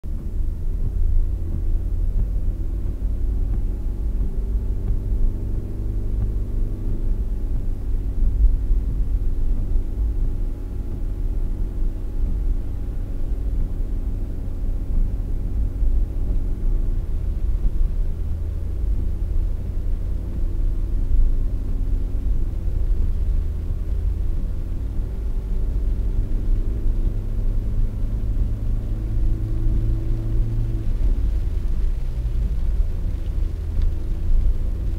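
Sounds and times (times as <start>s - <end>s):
car engine hum: 0.0s - 34.9s
road rumble: 0.0s - 34.9s.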